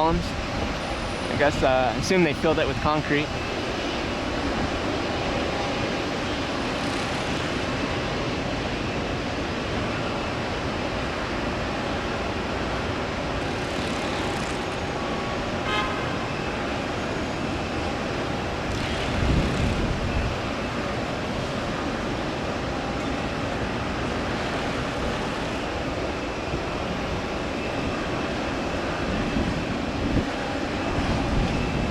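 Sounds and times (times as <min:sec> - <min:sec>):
airport noise: 0:00.0 - 0:31.9
road traffic: 0:00.0 - 0:31.9.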